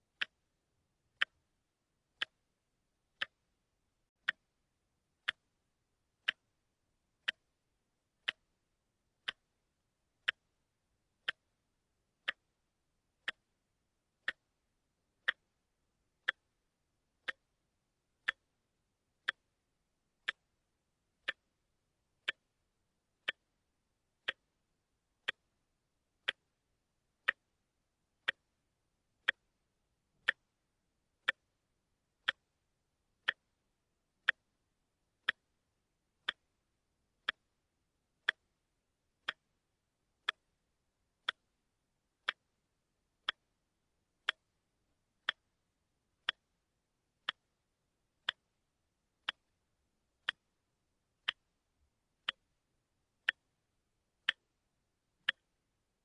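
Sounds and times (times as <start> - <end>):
watch ticking: 0.0 - 0.5, 1.1 - 3.5, 4.1 - 56.0.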